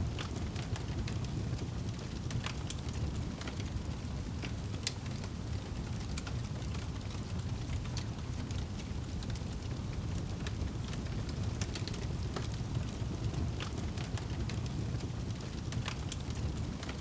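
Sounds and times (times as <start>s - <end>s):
fire crackling and popping: 0.0s - 17.0s
low fire rumble: 0.0s - 17.0s.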